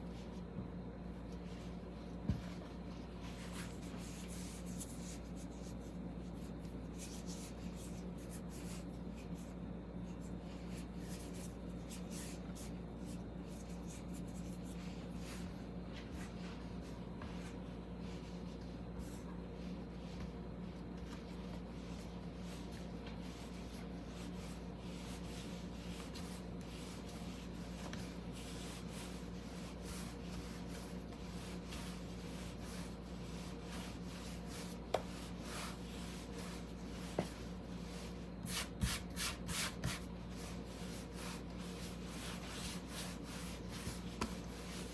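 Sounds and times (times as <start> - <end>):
steady low hum: 0.0 - 44.9
rubbing and scraping of food preparation: 1.1 - 44.9.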